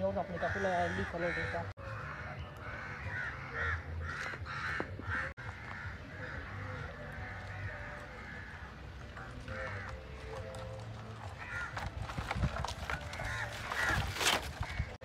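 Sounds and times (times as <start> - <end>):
crows cawing: 0.0 - 10.5, 11.2 - 15.0.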